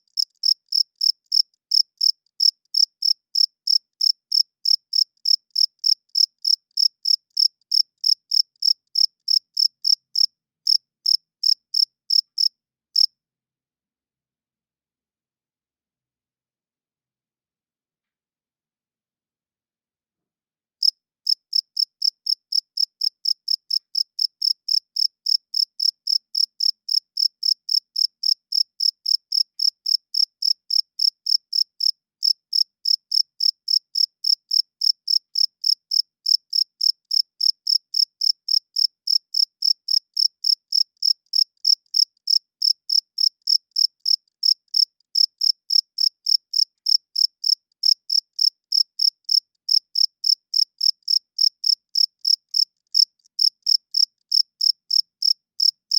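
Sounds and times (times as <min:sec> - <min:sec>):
cricket chirping: 0:00.1 - 0:13.1, 0:20.8 - 0:55.8.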